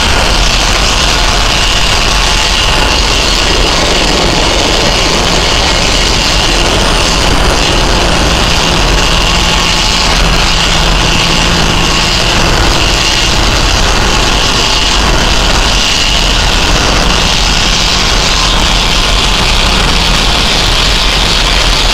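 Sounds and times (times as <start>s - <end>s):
helicopter turbine and rotor noise: 0.0s - 21.9s.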